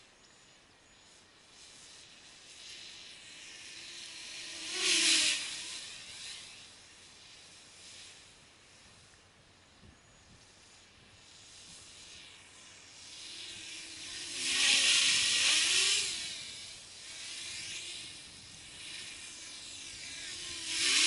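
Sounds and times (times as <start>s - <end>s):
drone propellers whirring: 0.0s - 21.0s
hiss of air: 1.0s - 21.0s.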